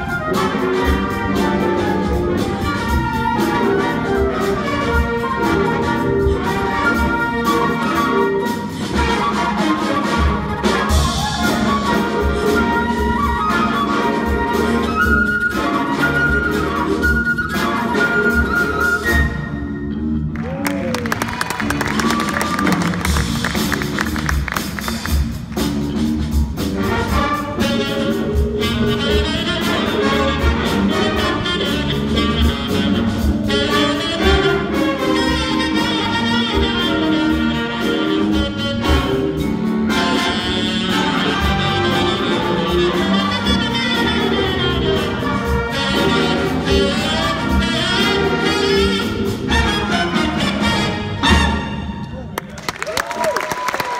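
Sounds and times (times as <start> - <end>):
big band playing funk-jazz: 0.0 - 53.9.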